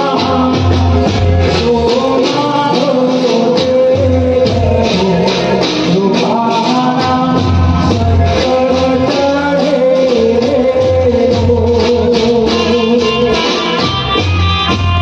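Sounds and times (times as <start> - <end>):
loud amplified folk music: 0.0 - 15.0.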